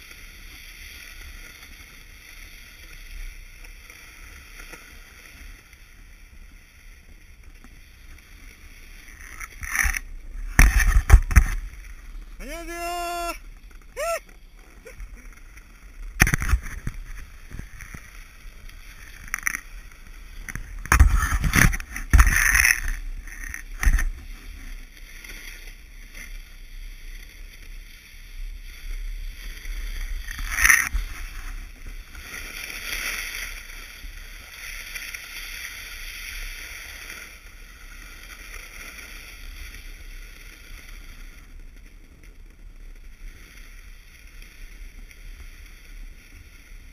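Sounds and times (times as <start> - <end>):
snowboard edges scraping snow: 0.0 - 46.9.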